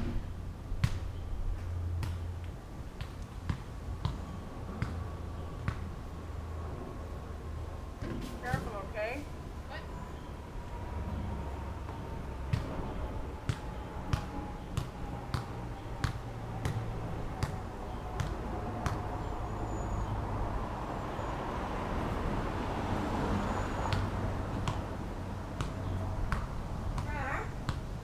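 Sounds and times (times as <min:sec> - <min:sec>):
road traffic: 0:00.0 - 0:28.0
vehicle passing: 0:03.4 - 0:27.6.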